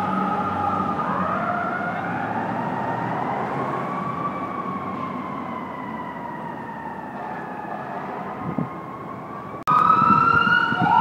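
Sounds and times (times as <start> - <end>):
fire truck siren: 0.0 - 11.0.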